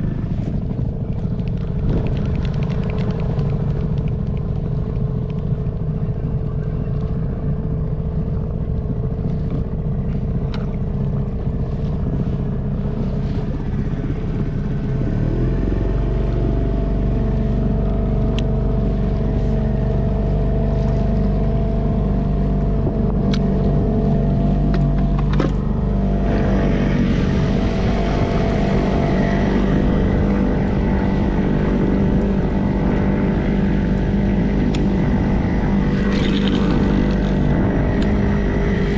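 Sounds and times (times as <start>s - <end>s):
outboard motor running: 0.0s - 38.9s
water splashing against hull: 0.0s - 38.9s.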